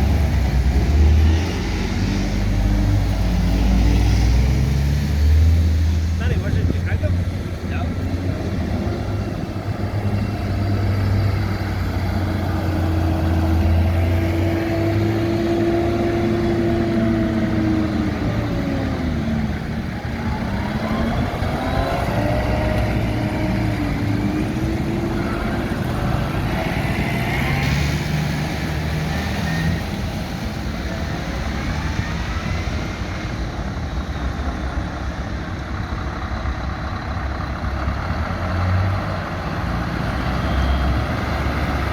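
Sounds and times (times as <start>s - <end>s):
tractor and truck engines: 0.0s - 41.9s.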